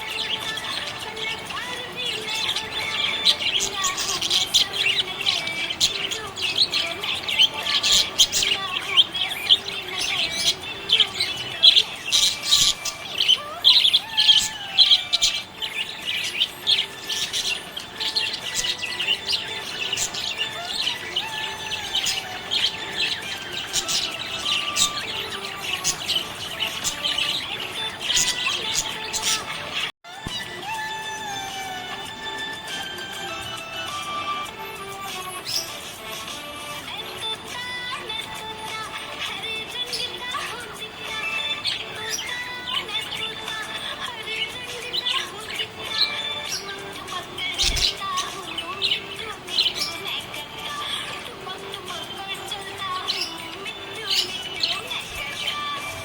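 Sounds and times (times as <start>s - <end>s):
budgerigar chirping and warbling: 0.0s - 34.5s, 35.3s - 56.0s.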